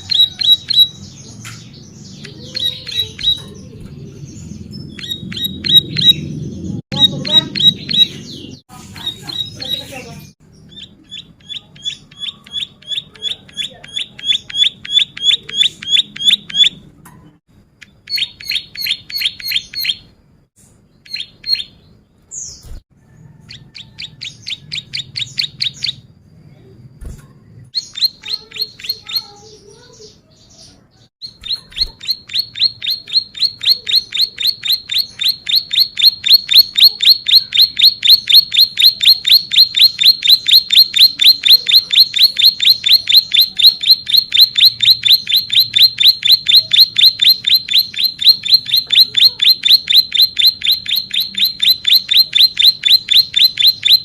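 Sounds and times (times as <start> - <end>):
bird chirping rapidly: 0.0 - 16.8, 17.8 - 20.2, 20.9 - 26.2, 27.7 - 54.0.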